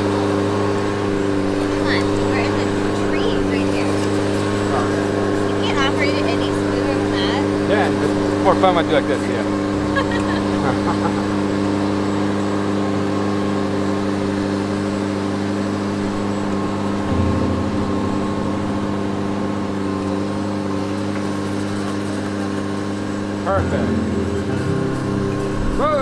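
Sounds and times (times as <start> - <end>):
aerial lift engine humming: 0.0 - 26.0.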